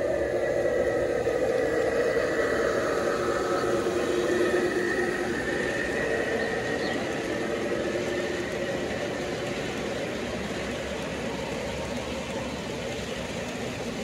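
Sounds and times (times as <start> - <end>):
model locomotive hum and whine: 0.0 - 14.0
wheels rumbling on rail: 0.0 - 14.0.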